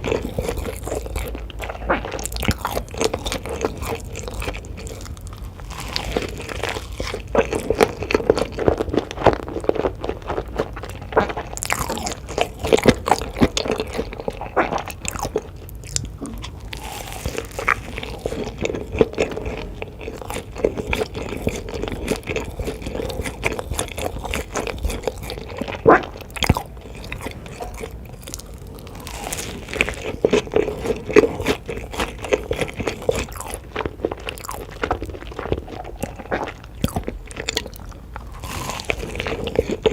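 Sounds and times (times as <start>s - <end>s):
crisp food crunching: 0.0s - 39.9s
person chewing and biting: 0.0s - 39.9s.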